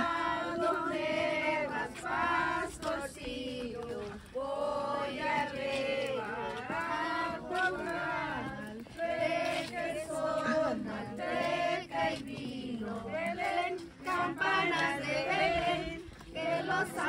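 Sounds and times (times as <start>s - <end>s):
group singing a carol: 0.0s - 17.0s.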